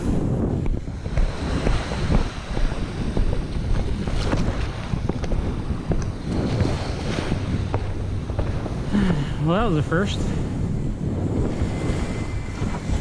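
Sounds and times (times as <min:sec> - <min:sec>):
water splashing against hull: 0:00.0 - 0:13.0
wind buffeting microphone: 0:00.0 - 0:13.0.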